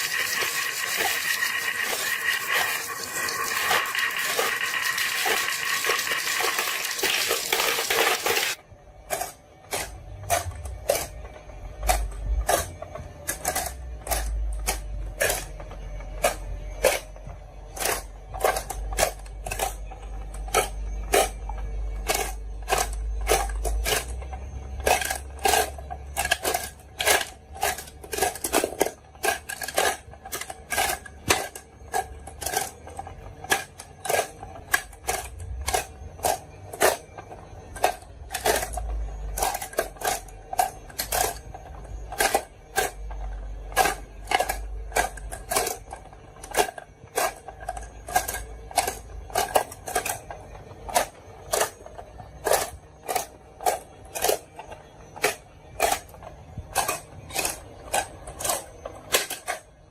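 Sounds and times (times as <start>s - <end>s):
marbles clacking: 0.0s - 11.2s, 17.7s - 59.9s.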